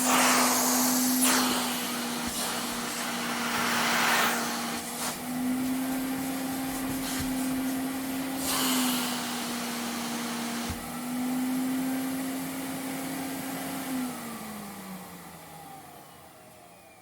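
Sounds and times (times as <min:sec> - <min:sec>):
vacuum cleaner motor whining: 0:00.0 - 0:17.0.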